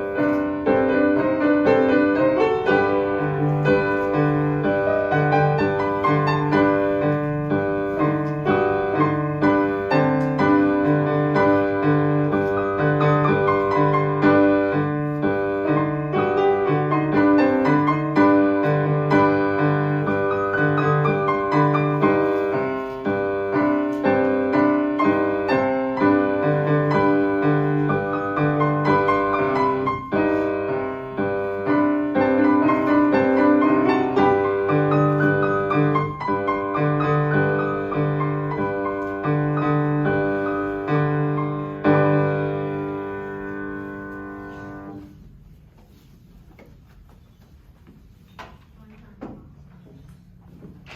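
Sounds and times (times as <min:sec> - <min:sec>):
solo piano melody: 0:00.0 - 0:45.2.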